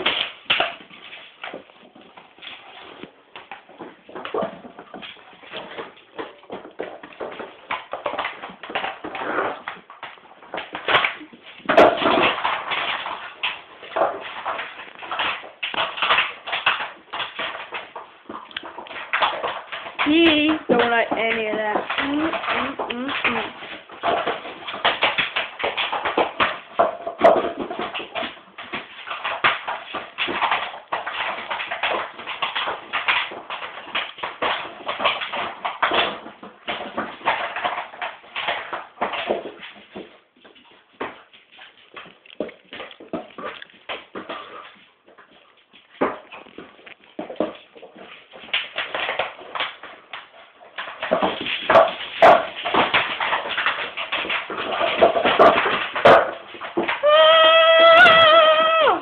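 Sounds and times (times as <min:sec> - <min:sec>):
dog chewing plastic bottle: 0:00.0 - 0:59.0
plastic bottle crackling: 0:00.0 - 0:59.0.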